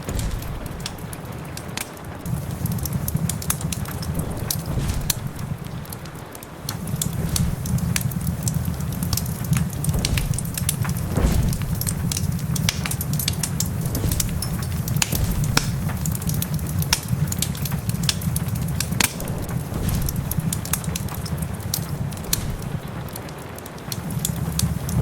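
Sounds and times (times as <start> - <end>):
constant low rumble: 0.0 - 25.0
steady rain: 0.0 - 25.0
wood fire crackling and popping: 0.0 - 25.0.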